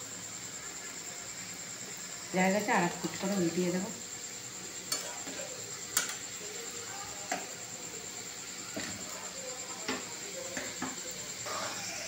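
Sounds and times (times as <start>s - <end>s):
dumplings sizzling in hot oil: 0.0s - 12.0s.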